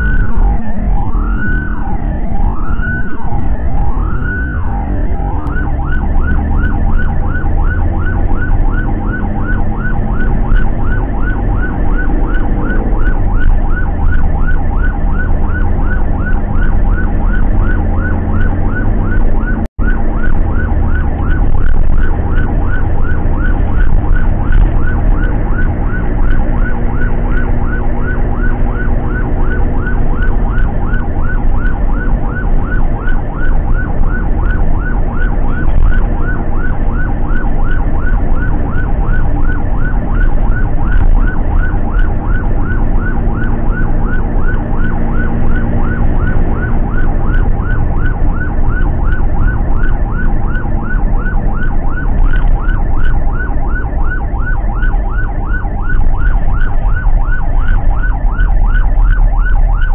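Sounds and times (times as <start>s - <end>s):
ambulance siren yelping: 0.0s - 59.9s
engine and road rumble: 0.0s - 59.9s.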